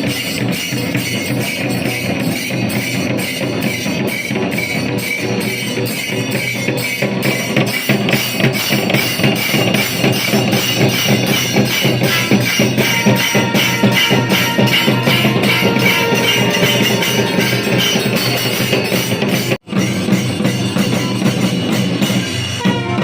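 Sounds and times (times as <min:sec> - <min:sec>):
drums beating fast rhythm: 0:00.0 - 0:23.0
jingling metal percussion: 0:00.0 - 0:23.0.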